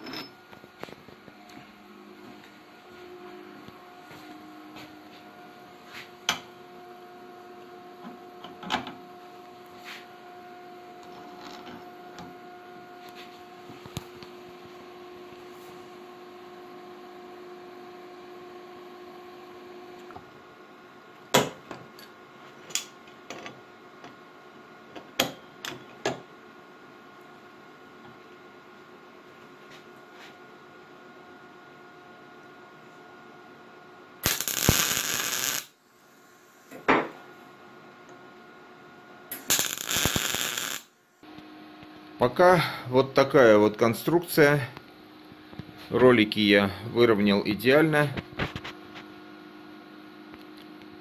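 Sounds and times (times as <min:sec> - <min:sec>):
steady hum: 0:00.0 - 0:23.2, 0:23.8 - 0:51.0.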